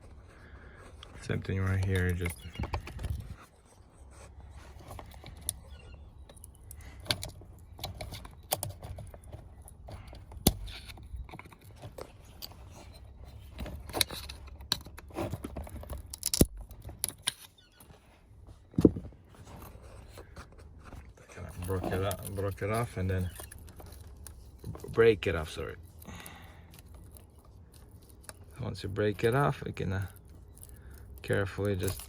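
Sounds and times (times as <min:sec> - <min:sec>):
small parts clicking and scraping: 0:00.0 - 0:18.0, 0:19.4 - 0:32.0.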